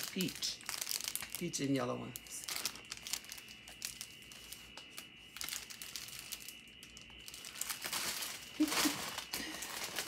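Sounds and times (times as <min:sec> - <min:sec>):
plastic sleeves crinkling: 0:00.0 - 0:10.0.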